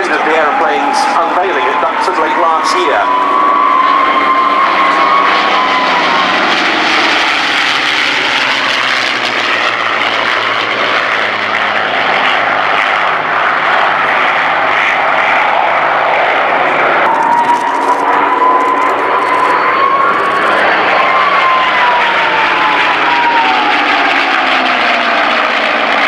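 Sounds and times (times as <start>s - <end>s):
propeller aircraft engines droning: 0.0s - 26.0s.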